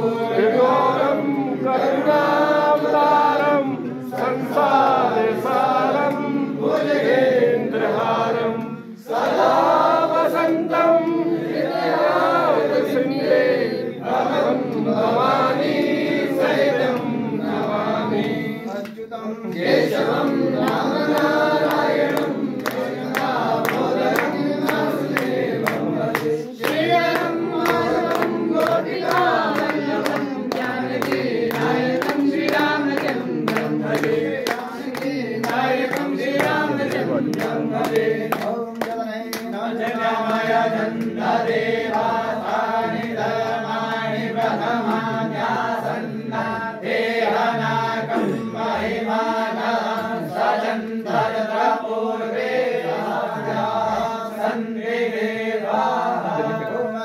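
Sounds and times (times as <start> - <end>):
group singing: 0.0 - 57.0.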